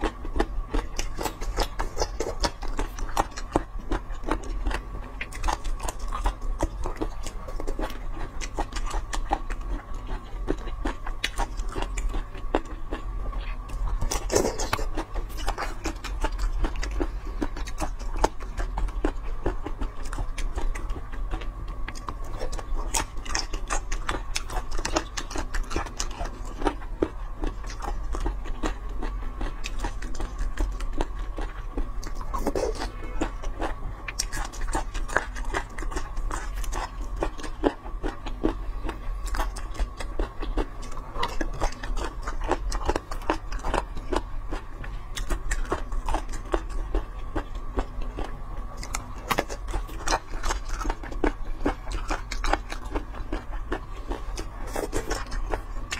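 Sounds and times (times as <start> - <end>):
chewing and biting food: 0.0 - 55.9
faint steady hum: 0.0 - 55.9.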